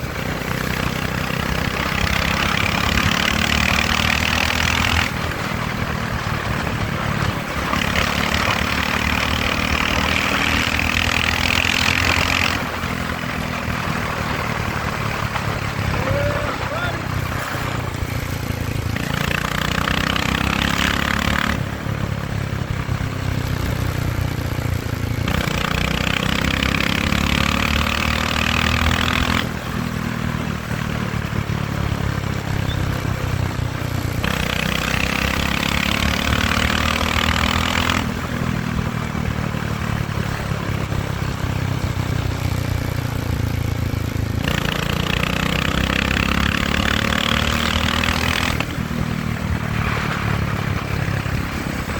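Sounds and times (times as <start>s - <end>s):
motorcycle engine running: 0.0s - 51.9s
wind and road noise on microphone: 0.0s - 51.9s.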